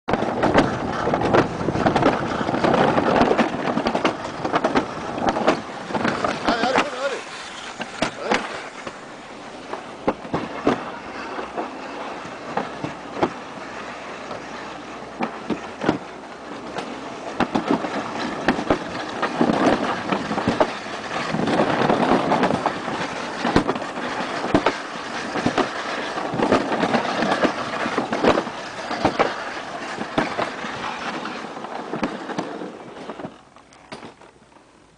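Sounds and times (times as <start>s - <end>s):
sled knocking: 0.1s - 34.8s
plastic sled scraping on concrete: 0.1s - 34.9s.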